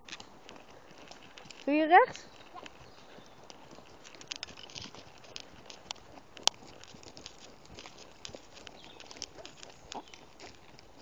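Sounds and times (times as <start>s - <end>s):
hoofbeats on dirt path: 0.0s - 11.0s.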